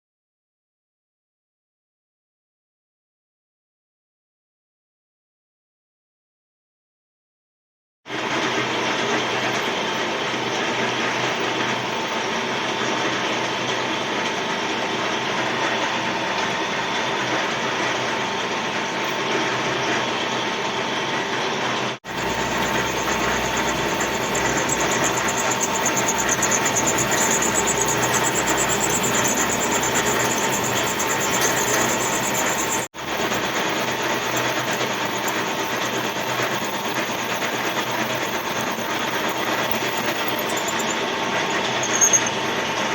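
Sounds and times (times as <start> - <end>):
machine running under load: 8.1 - 42.9.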